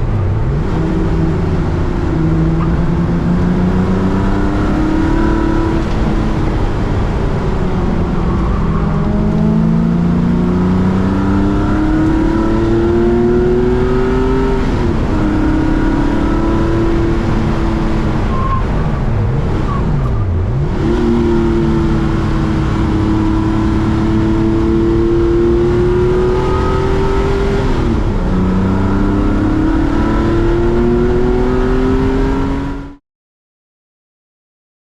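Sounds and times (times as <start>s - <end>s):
race car engine accelerating: 0.0s - 33.0s.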